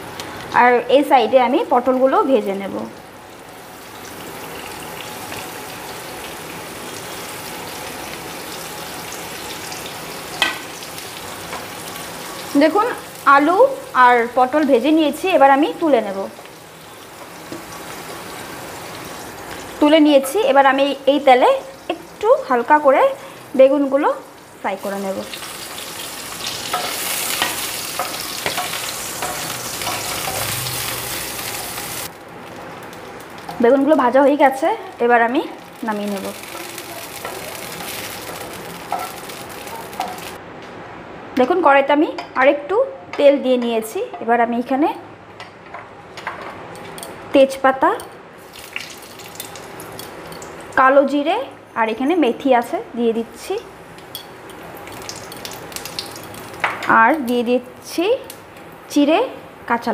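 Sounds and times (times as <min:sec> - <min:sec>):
vegetables sizzling in oil: 0:00.0 - 0:40.4, 0:46.7 - 0:59.9.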